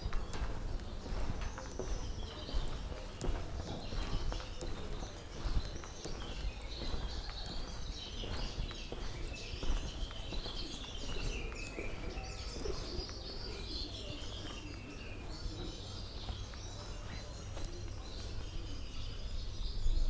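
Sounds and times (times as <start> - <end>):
birds chirping and twittering: 0.0 - 20.0.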